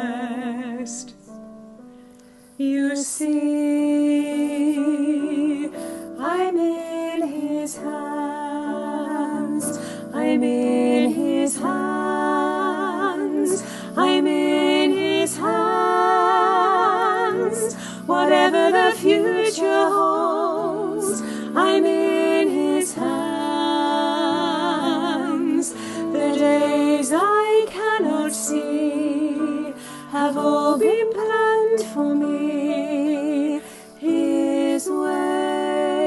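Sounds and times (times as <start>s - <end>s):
women singing duet: 0.0s - 1.3s, 2.6s - 36.0s.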